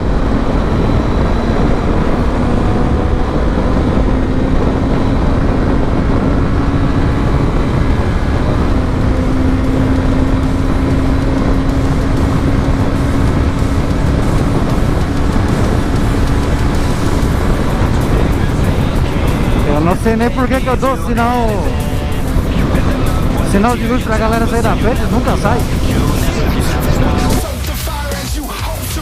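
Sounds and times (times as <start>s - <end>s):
motorcycle engine at high revs: 0.0s - 29.0s
wind rush on microphone: 0.0s - 29.0s.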